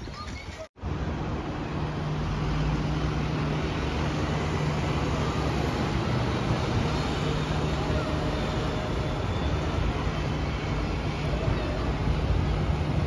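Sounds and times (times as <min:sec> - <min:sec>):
bus engine humming: 0:00.8 - 0:13.0.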